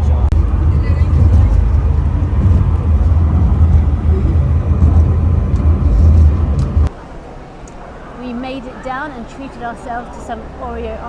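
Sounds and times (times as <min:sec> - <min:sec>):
funicular train rumbling: 0:00.0 - 0:11.0.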